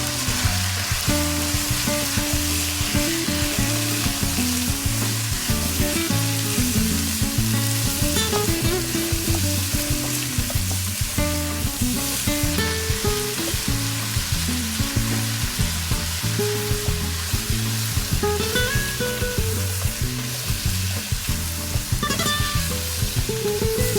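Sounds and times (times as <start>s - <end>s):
background music with beat: 0.0s - 23.9s
food sizzling in a pan: 0.0s - 23.9s.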